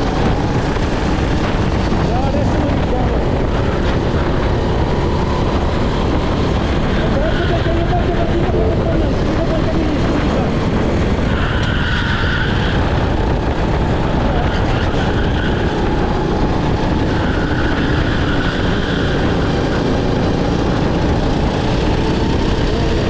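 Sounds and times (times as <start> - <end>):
kart engine running: 0.0 - 23.0
track noise: 0.0 - 23.0
wind noise: 0.0 - 23.0.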